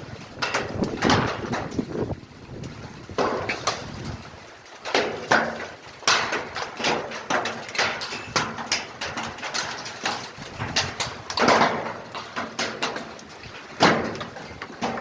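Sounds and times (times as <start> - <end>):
hailstones striking a roof: 0.0 - 15.0.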